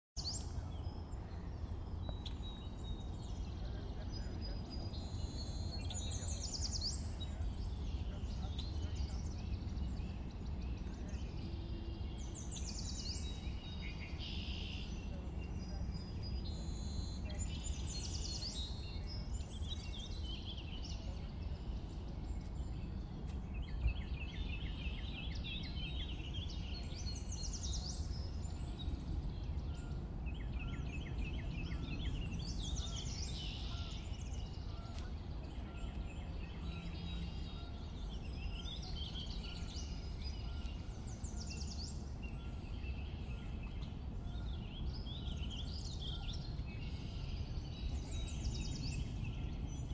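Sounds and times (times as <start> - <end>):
birds chirping: 0.2 - 49.9
low background rumble: 0.2 - 49.9.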